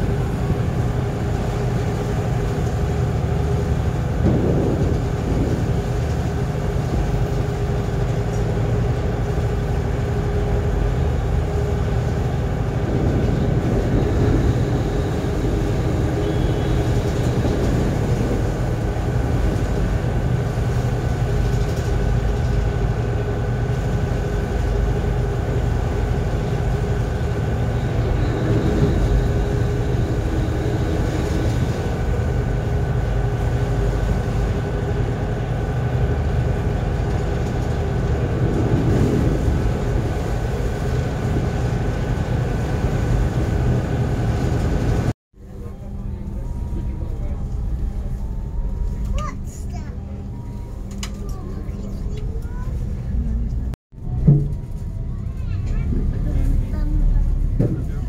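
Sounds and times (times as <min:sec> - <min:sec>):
boat engines droning: 0:00.0 - 0:58.0.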